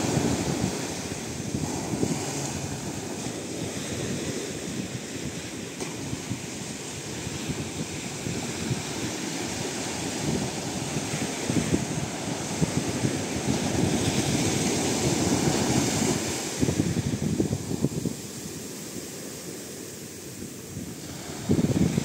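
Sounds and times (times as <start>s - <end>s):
waves washing on beach: 0.0s - 22.0s
wind buffeting microphone: 0.0s - 22.0s.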